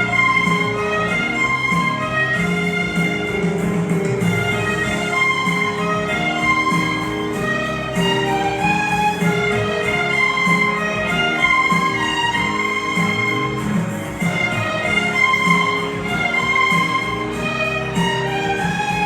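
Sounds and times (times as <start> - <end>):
steady accompaniment: 0.0 - 19.0
violin melody: 0.0 - 19.0.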